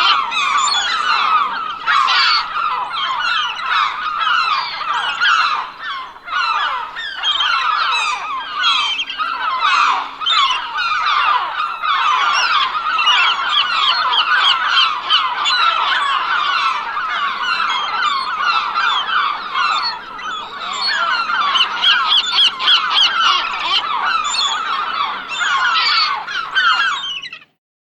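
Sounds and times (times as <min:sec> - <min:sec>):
gulls calling: 0:00.0 - 0:27.5.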